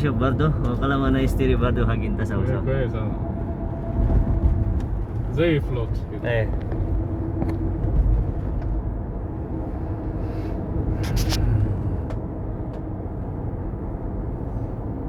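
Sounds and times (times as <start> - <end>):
truck driving with road noise: 0.0 - 15.0.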